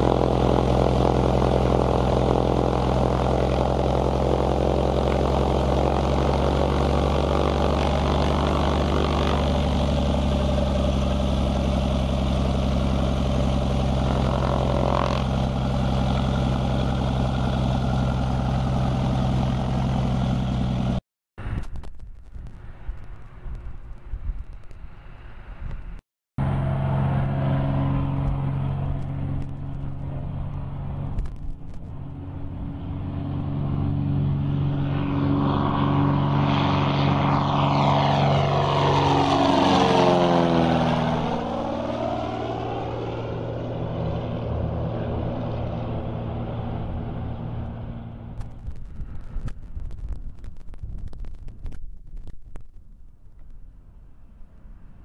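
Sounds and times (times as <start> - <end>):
propeller airplane engine: 0.0 - 55.0.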